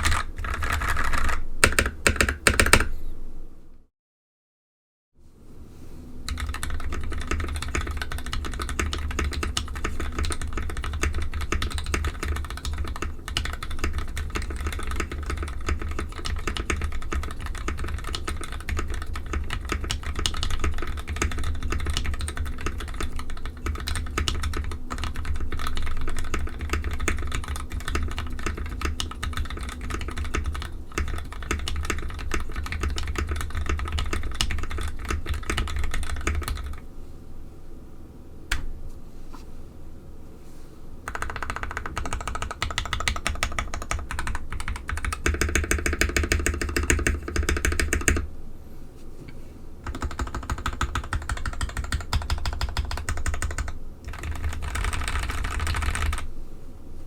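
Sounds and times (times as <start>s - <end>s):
mechanical keyboard typing: 0.0s - 2.9s, 6.3s - 36.8s, 41.1s - 48.3s, 49.8s - 56.3s.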